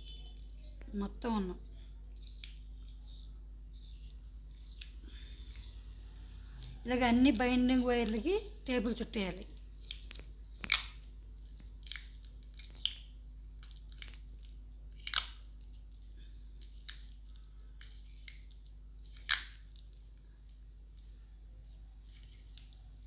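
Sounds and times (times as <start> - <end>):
tape crackling and rasping: 0.0 - 23.0.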